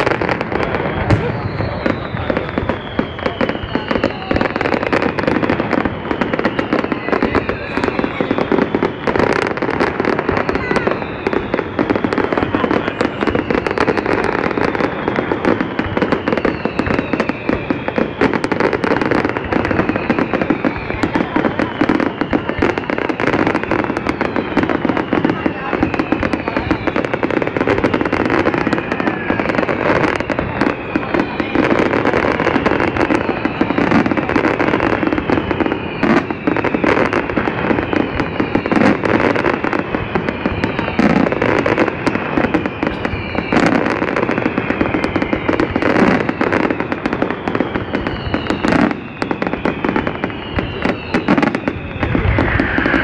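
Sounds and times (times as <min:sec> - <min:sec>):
falling firework whistles: 0:00.0 - 0:53.0
fireworks crackles and bangs: 0:00.0 - 0:53.0.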